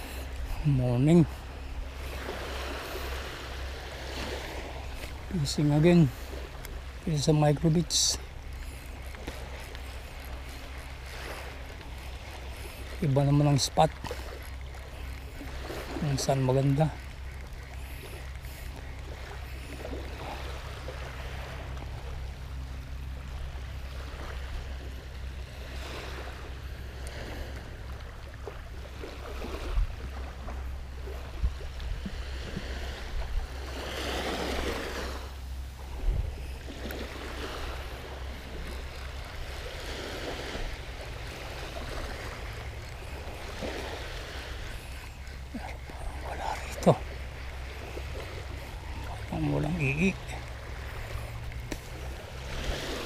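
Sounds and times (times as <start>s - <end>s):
waves washing onto sand: 0.0s - 53.0s
wind rumble on microphone: 0.0s - 53.0s.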